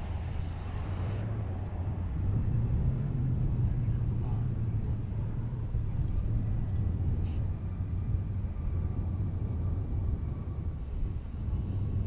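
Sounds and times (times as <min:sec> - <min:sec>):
faint jet engine whine: 0:00.0 - 0:12.0.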